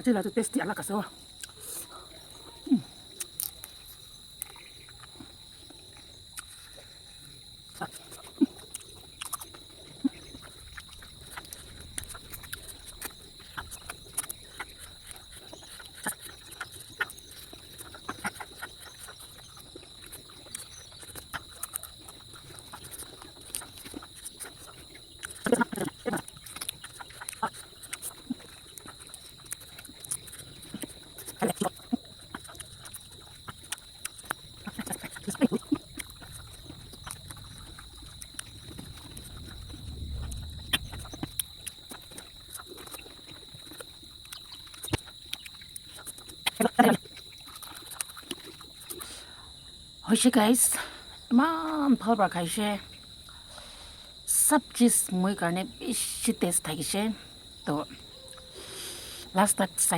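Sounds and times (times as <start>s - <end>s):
chewing clicks and smacks: 0.2s - 49.4s, 54.3s - 59.9s.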